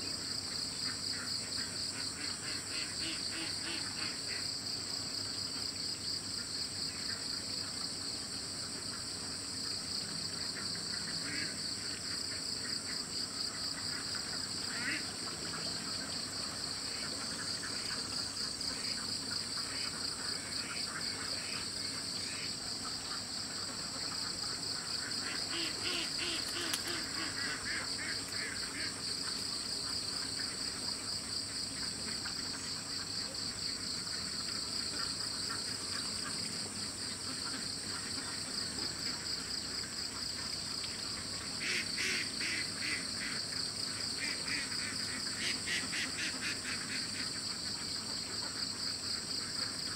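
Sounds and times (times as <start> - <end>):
high-pitched insect chorus: 0.0 - 49.9
rapidly pulsing insect call: 0.0 - 49.9.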